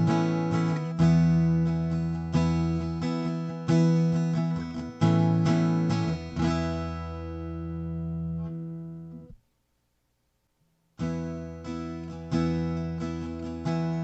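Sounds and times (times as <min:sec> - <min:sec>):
acoustic guitar strumming: 0:00.0 - 0:09.4, 0:11.0 - 0:14.0.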